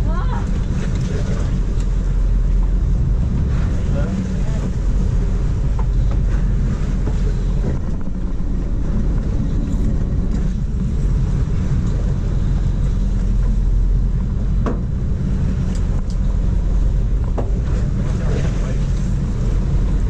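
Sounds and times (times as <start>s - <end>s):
boat engine idling: 0.0s - 20.0s
wind on microphone: 0.0s - 20.0s.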